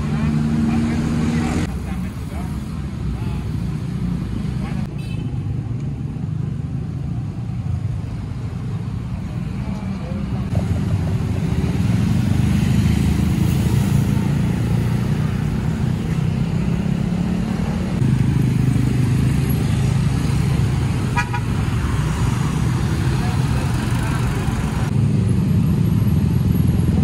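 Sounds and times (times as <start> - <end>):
cars and scooters passing: 0.0 - 27.0.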